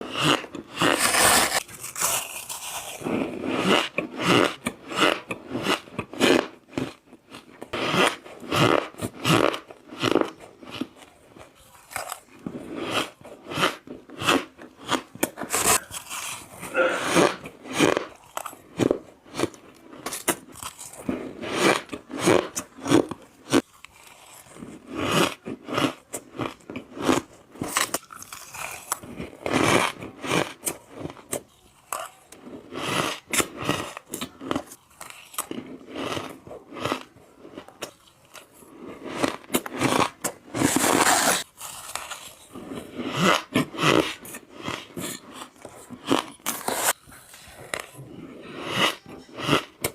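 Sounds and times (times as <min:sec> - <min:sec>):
teeth crunching ice: 0:00.0 - 0:49.9.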